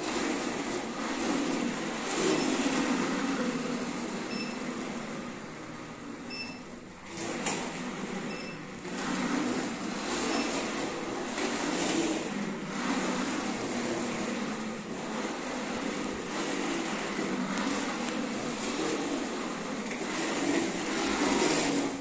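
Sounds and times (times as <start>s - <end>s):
toy car wheels rolling on hard floor: 0.0s - 5.3s, 7.0s - 22.0s.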